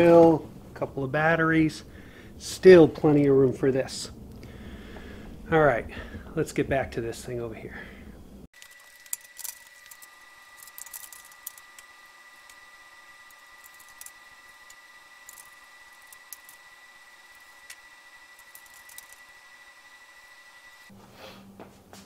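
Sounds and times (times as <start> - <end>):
faint high whine: 0.0 - 20.9.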